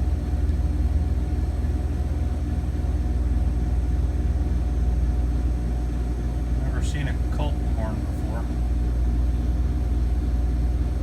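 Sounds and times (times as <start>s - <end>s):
compressor humming: 0.0s - 11.0s
fan whoosh of air: 0.0s - 11.0s.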